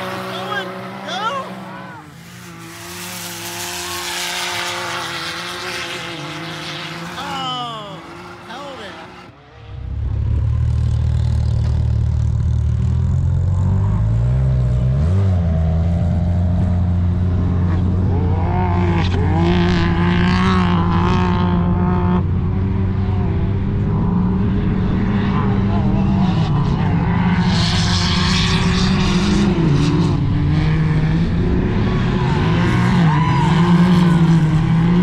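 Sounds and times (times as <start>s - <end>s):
engine running at high revs: 0.0s - 35.0s.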